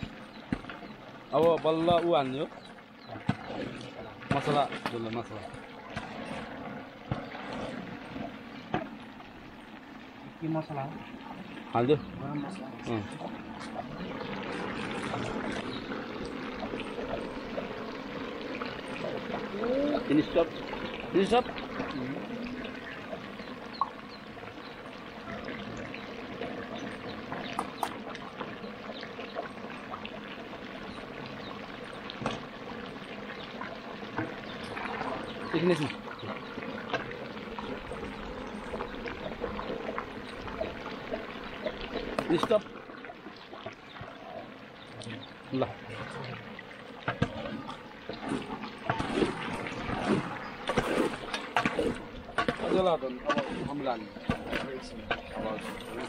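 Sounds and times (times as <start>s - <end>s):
small crackles of frying: 0.0s - 56.0s.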